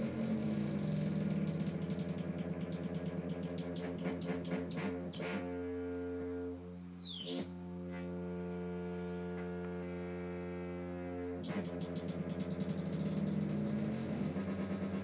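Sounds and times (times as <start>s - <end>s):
buzzy synthesizer drone: 0.0s - 15.0s.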